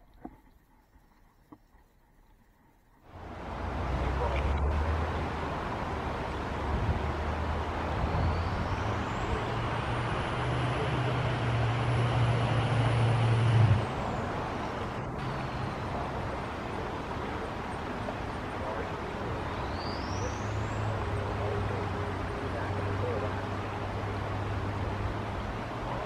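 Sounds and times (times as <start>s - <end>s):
vehicle engine hum: 3.0s - 26.0s.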